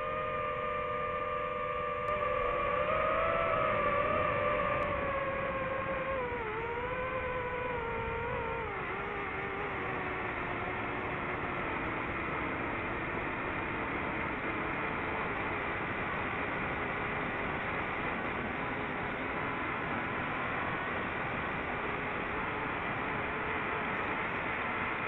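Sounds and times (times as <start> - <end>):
electric motor propeller whine: 0.0 - 25.0
wind noise: 0.0 - 25.0.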